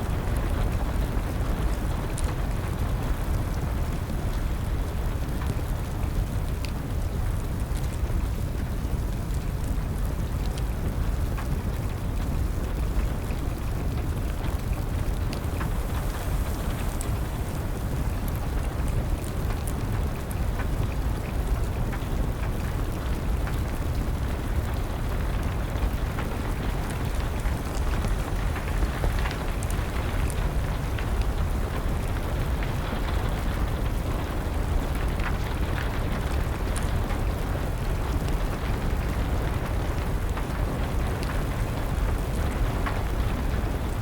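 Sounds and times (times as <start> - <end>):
steady rain: 0.0 - 44.0
wood fire crackling: 0.0 - 44.0.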